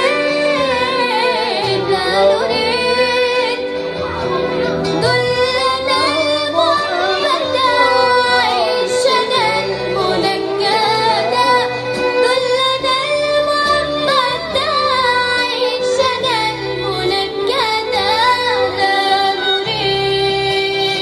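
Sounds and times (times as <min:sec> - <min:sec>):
sliding ornamented melody: 0:00.0 - 0:21.0
sustained low chord notes: 0:00.0 - 0:21.0.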